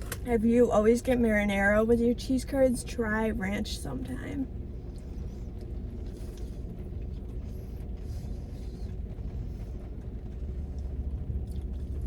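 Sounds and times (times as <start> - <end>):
low rumble inside car cabin: 0.0 - 12.0.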